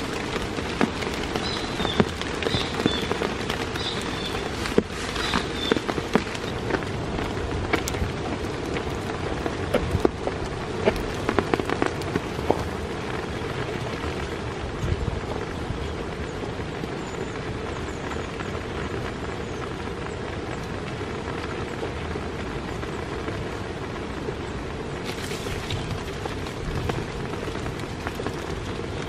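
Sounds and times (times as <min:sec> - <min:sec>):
heavy rain falling: 0:00.0 - 0:29.0
raindrops striking close by: 0:00.0 - 0:29.0.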